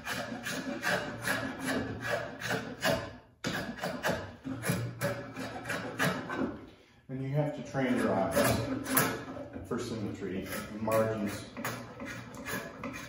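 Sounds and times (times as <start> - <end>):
draw knife scraping wood: 0.0 - 6.6, 7.8 - 13.0.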